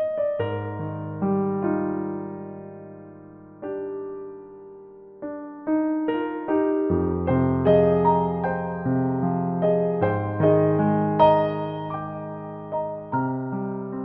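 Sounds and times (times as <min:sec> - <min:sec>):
gentle electric piano chords: 0:00.0 - 0:14.0.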